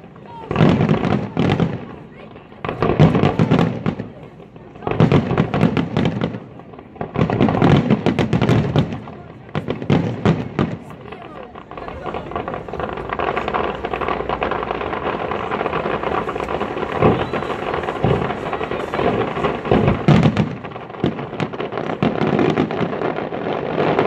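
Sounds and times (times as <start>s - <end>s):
firework shells booming: 0.0s - 24.0s
fireworks crackling: 0.0s - 24.0s.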